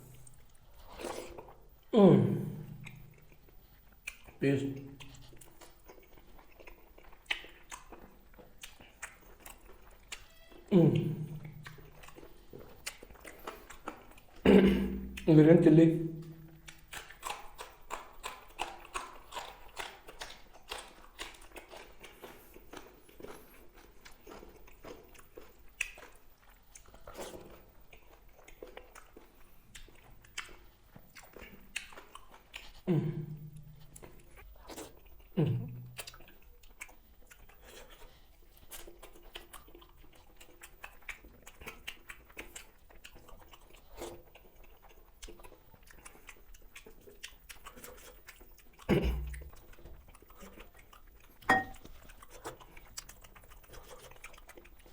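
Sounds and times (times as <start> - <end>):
wet chewing and crunching: 0.0 - 54.9.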